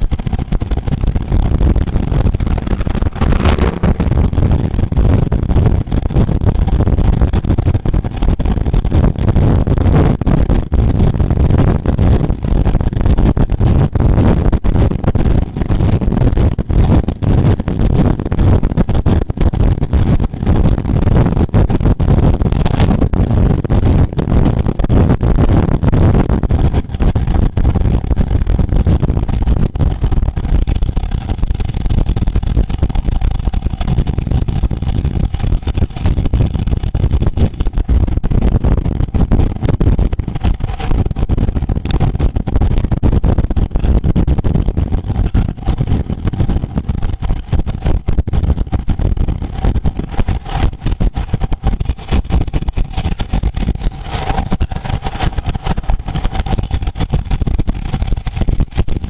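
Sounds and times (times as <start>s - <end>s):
road rumble: 0.0s - 59.0s
wind buffeting microphone: 0.0s - 59.0s.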